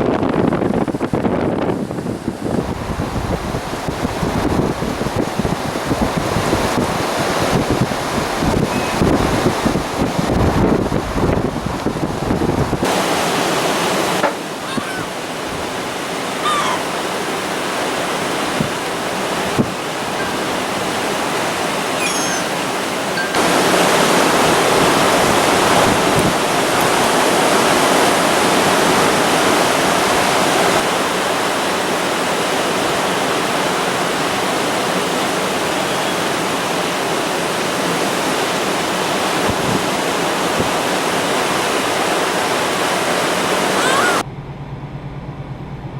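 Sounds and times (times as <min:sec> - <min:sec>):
gusty wind: 0:00.0 - 0:45.9
storm waves breaking: 0:00.0 - 0:45.9.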